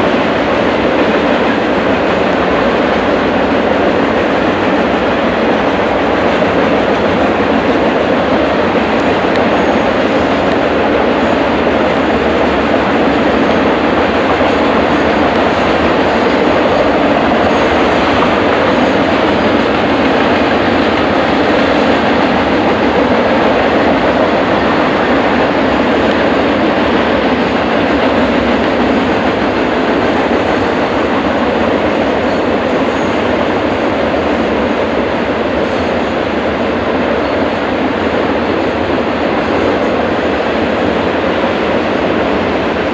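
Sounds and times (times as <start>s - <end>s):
freight train wheels rumbling on rail: 0.0s - 42.9s.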